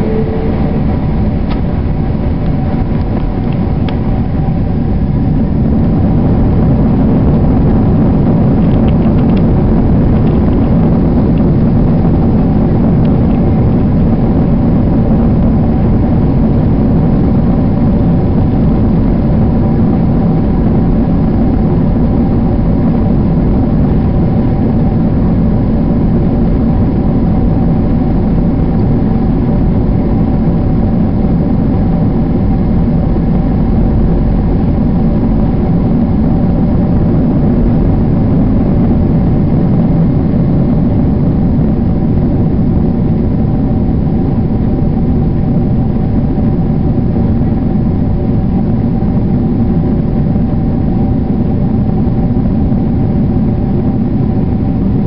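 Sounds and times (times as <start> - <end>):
jet engines roaring at takeoff: 0.0 - 55.0
whining fan tones: 0.0 - 55.0.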